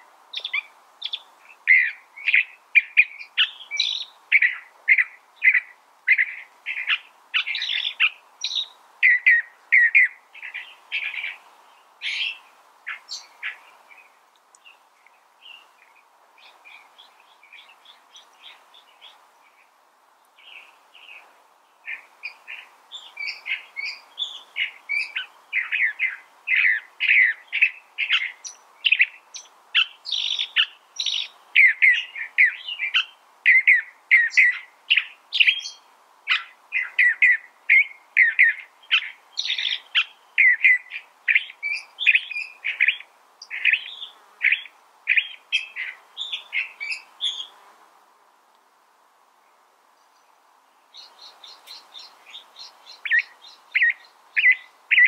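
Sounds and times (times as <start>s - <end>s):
bird singing varied phrases: 0.3s - 14.8s, 20.4s - 47.6s, 50.0s - 55.0s.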